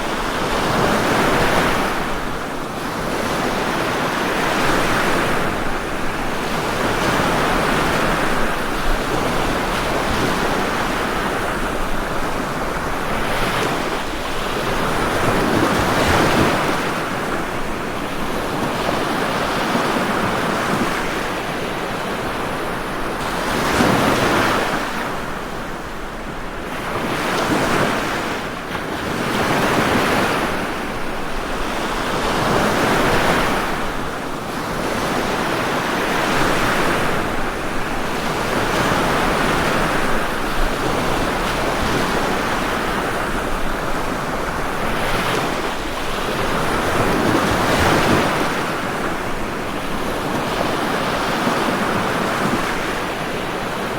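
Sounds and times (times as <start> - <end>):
waves breaking on shore: 0.0 - 53.9.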